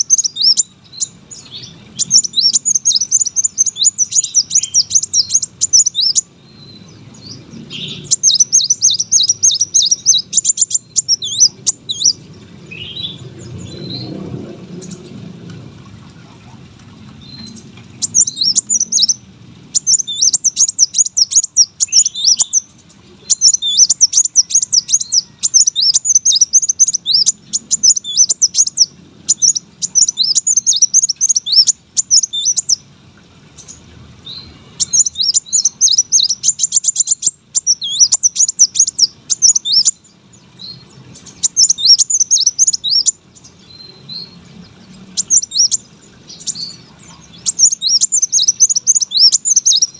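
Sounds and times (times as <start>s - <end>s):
bird twittering song: 0.0s - 15.3s, 17.1s - 32.9s, 33.5s - 49.9s.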